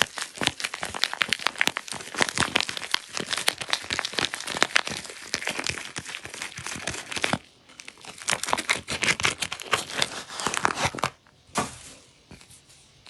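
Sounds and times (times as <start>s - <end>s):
packaging crinkling and tearing: 0.0s - 11.9s.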